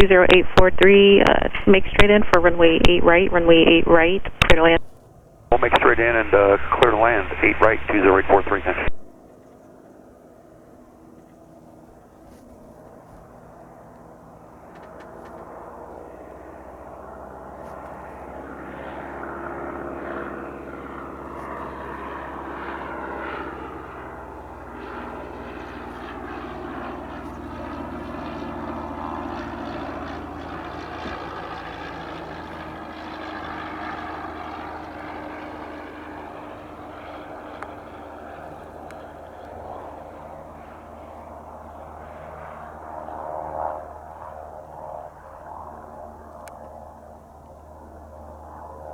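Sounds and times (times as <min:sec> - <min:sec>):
propeller plane passing: 0:00.0 - 0:48.9.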